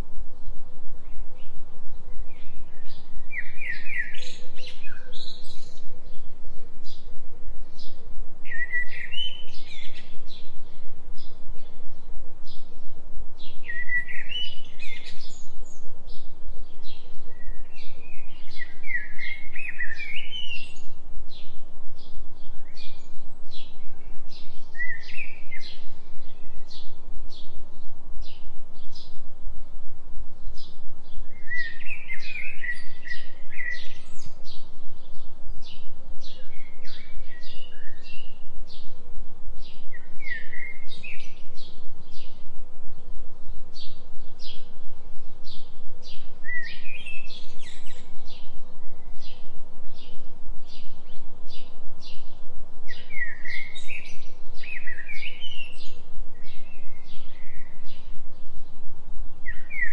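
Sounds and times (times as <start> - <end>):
steady low pulsing hum: 0.0 - 59.9.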